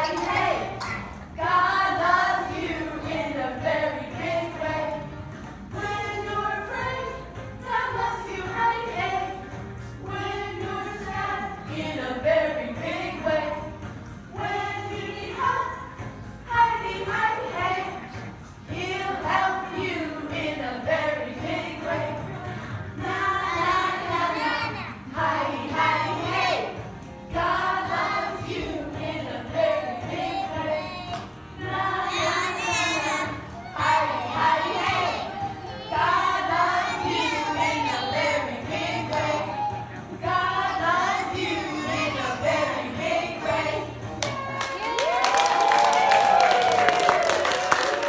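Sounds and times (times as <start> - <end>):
children singing: 0.0 - 5.2, 10.1 - 13.8, 14.4 - 44.4.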